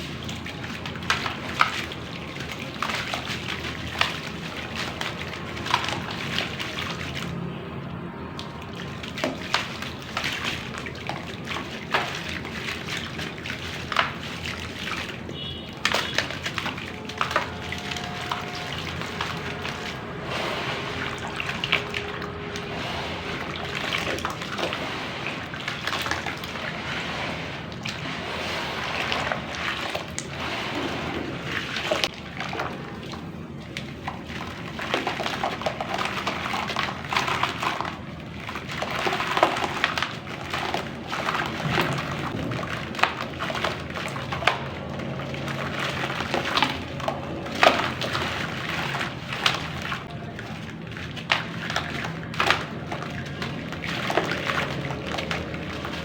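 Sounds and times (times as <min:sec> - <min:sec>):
water sloshing and trickling: 0:00.0 - 0:56.0.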